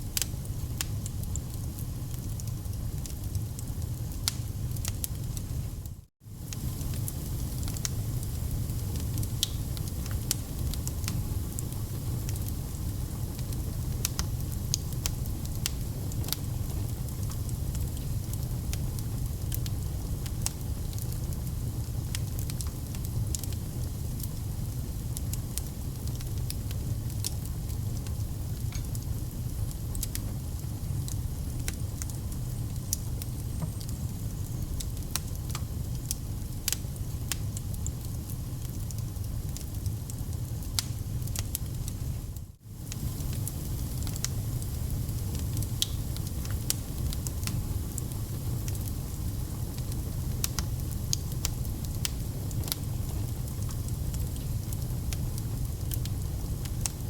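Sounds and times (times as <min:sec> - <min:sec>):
fireplace fire crackling and popping: 0:00.0 - 0:57.0
low rumble of flame: 0:00.0 - 0:57.0.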